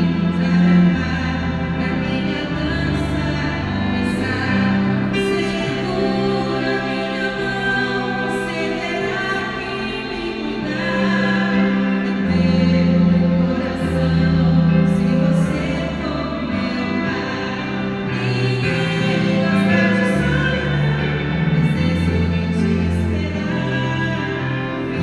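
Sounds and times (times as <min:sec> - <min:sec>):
bowed cello: 0:00.0 - 0:25.0
keyboard: 0:00.0 - 0:25.0
woman singing into microphone: 0:00.0 - 0:25.0.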